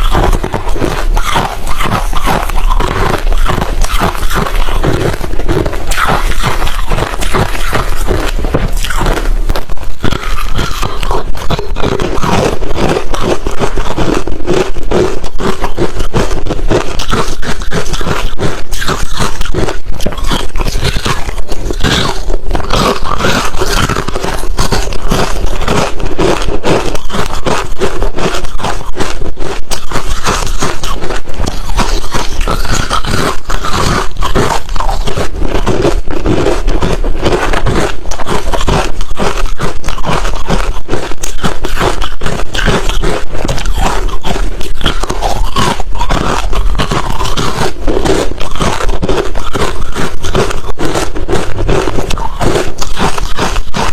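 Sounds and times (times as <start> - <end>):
ice being chewed and crunched: 0.0 - 53.9.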